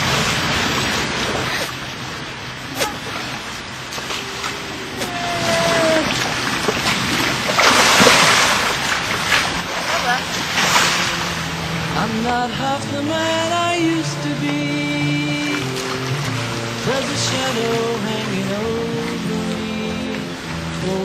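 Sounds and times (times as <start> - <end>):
pool water splashing: 0.0 - 21.0.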